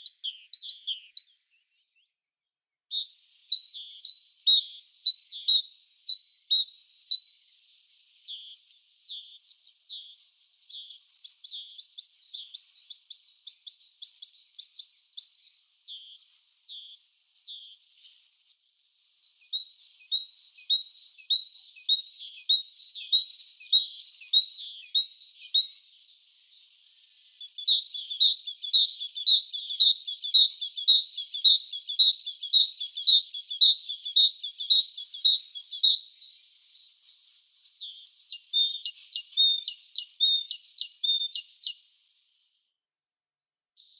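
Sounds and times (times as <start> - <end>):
songbirds chirping: 0.0 - 42.8.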